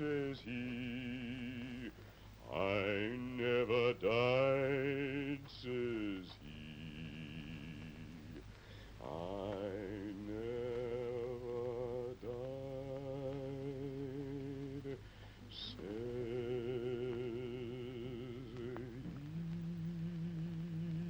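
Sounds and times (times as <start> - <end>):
man singing with vibrato: 0.0 - 21.0.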